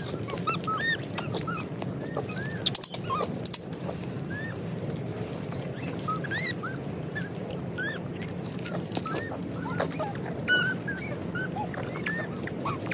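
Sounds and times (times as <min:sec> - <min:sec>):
monkeys squeaking and chirping: 0:00.0 - 0:12.9.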